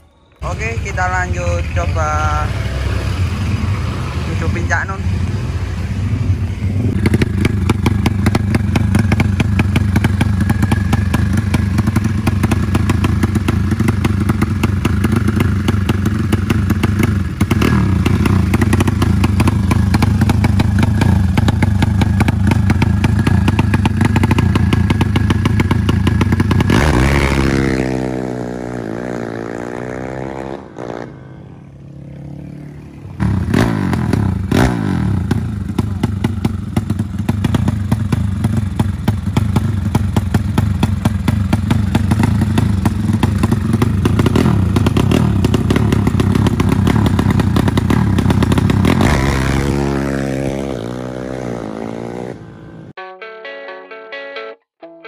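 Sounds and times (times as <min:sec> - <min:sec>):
motorcycle engine running loud: 0:00.5 - 0:52.9.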